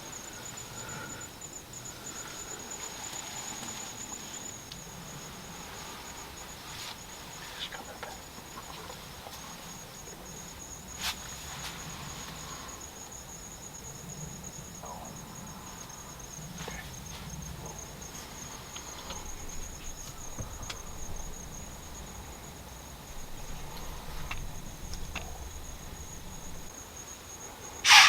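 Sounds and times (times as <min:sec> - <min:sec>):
insects chirping in a pulsing trill: 0:00.0 - 0:28.0.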